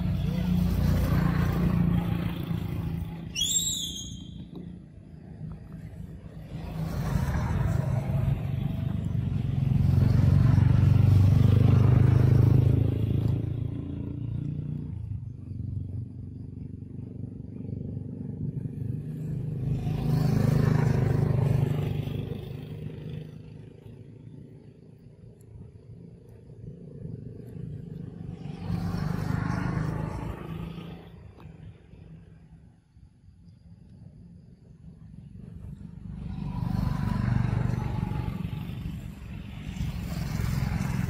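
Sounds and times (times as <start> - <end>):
vehicles passing on road: 0.0 - 41.0.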